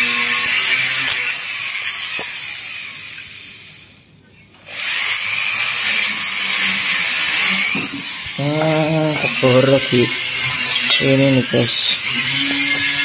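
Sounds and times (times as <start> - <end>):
rotary grinder grinding metal: 0.0 - 3.8, 4.7 - 13.0.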